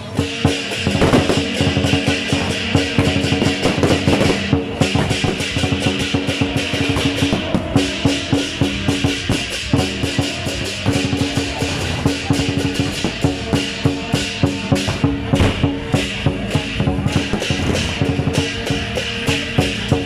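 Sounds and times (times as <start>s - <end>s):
fireworks crackling and popping: 0.0s - 20.0s
loud music with held notes: 0.0s - 20.0s.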